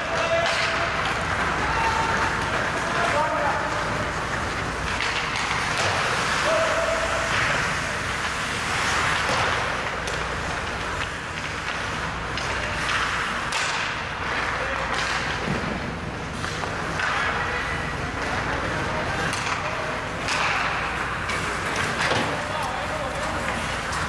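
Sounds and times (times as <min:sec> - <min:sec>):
hockey sticks and puck clacking: 0:00.0 - 0:24.0
skate blades scraping on ice: 0:00.0 - 0:24.0.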